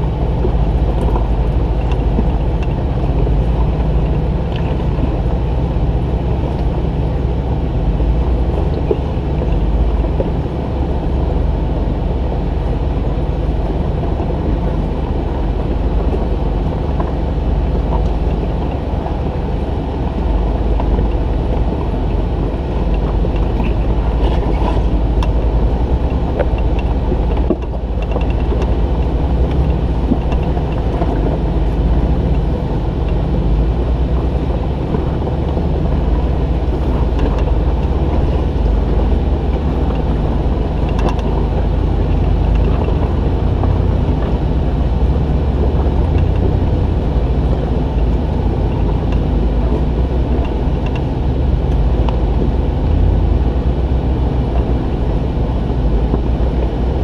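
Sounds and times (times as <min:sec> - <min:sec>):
muffled vehicle engine drone: 0:00.0 - 0:57.0.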